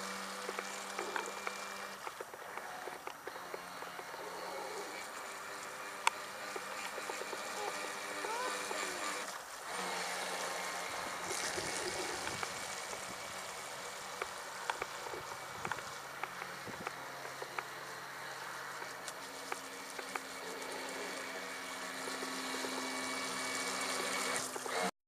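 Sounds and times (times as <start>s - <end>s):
distant small electric motor buzz: 0.0s - 25.0s.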